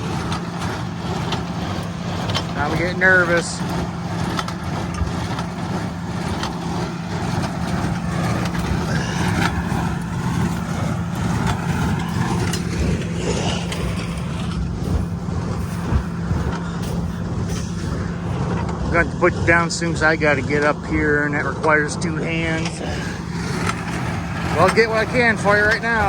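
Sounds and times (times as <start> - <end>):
tractor engine humming: 0.0 - 26.0.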